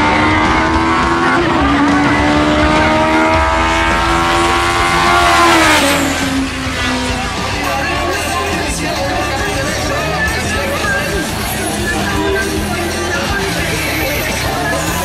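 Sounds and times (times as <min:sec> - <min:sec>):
high-revving race car engine: 0:00.0 - 0:15.0
low engine rumble: 0:00.0 - 0:15.0.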